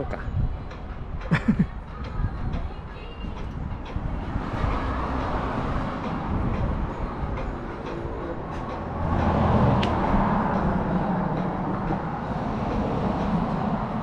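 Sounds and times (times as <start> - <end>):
passing vehicle rumble: 0.0 - 14.0.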